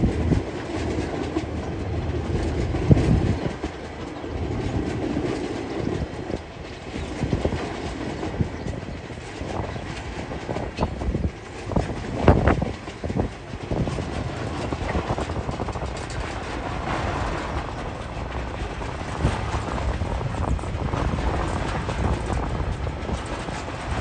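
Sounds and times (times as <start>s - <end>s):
train rolling rumble: 0.0s - 24.0s
train wheels clacking: 0.0s - 24.0s.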